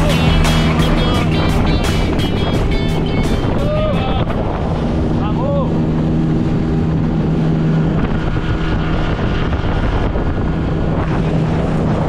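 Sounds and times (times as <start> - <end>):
outboard engine droning: 0.0 - 12.0
water rushing: 0.0 - 12.0
wind buffeting microphone: 0.0 - 12.0.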